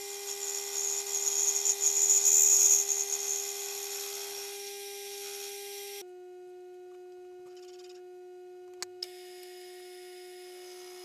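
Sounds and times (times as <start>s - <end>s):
milling machine spindle hum: 0.0s - 6.3s, 7.5s - 11.0s.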